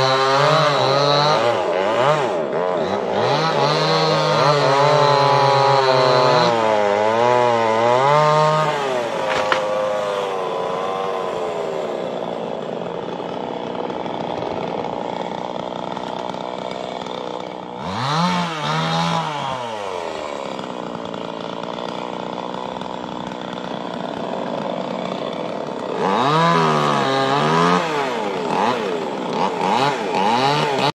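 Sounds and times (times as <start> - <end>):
chainsaw engine revving: 0.0 - 30.9.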